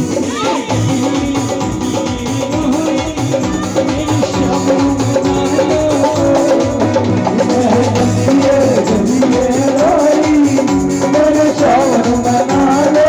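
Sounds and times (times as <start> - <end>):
devotional music over speakers: 0.0 - 13.0
drums beaten with sticks: 0.0 - 13.0.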